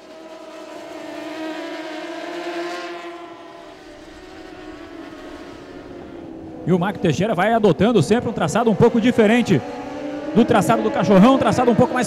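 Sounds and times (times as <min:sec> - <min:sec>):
racing motorcycle engines high revs: 0:00.0 - 0:12.0.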